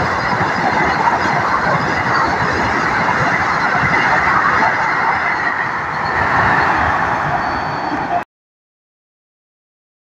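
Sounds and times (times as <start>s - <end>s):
train passing at speed: 0.0s - 8.2s.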